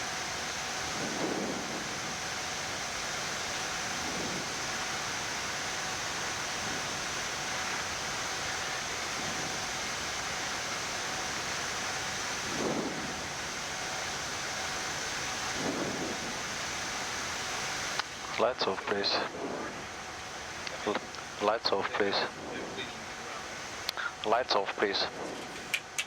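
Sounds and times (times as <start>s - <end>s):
cockpit rushing hiss: 0.0s - 26.0s.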